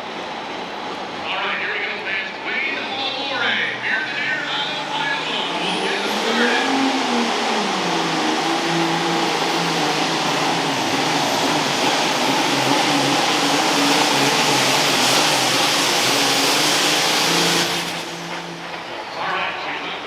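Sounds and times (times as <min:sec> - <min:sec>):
diesel engine at full throttle: 0:00.0 - 0:20.0.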